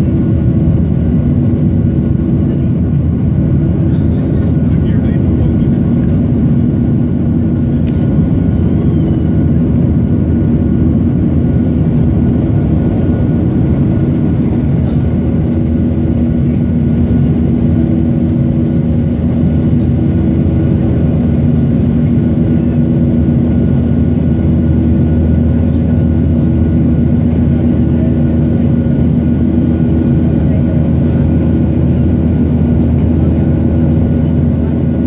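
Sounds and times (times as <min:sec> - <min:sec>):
constant low hum: 0:00.0 - 0:35.0
jet engines droning: 0:00.0 - 0:35.0.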